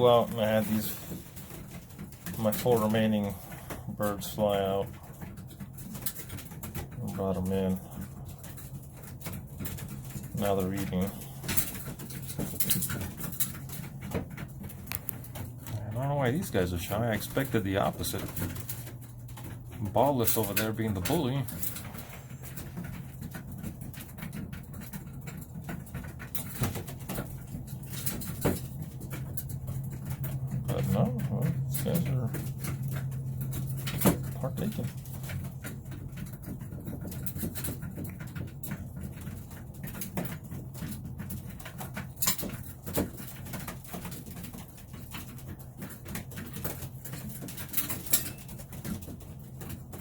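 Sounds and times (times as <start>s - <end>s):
low steady hum: 0.0s - 50.0s
pigeons pecking at feed: 0.0s - 50.0s.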